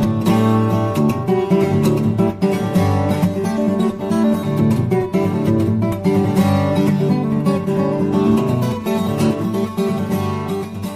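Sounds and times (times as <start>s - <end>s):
fingerstyle acoustic guitar: 0.0s - 10.9s.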